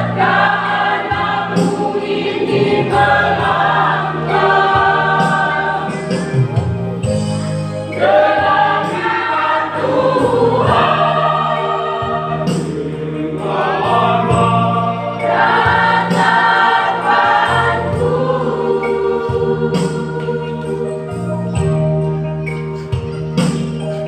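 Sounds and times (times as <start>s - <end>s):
church choir singing a hymn: 0.0s - 7.1s, 7.9s - 22.0s.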